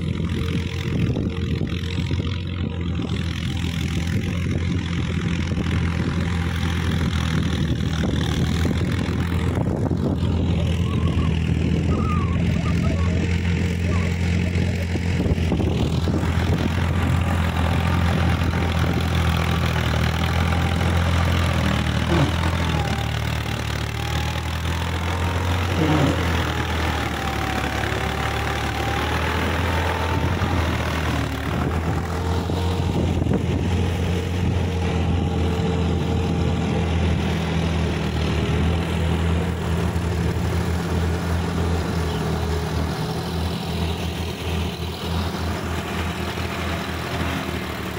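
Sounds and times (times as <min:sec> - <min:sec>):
diesel tractor engines droning: 0:00.0 - 0:47.9.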